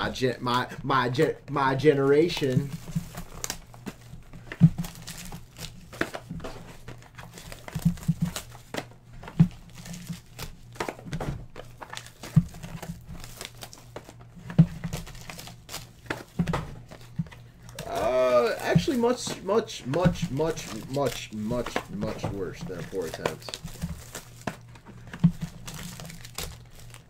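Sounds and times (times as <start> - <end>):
cardboard rustling and scraping: 1.2 - 27.0
plastic wrap crinkling: 1.9 - 27.0.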